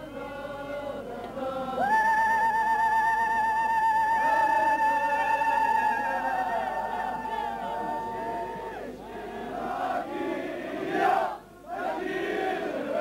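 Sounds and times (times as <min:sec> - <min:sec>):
singing voices: 0:00.0 - 0:13.0.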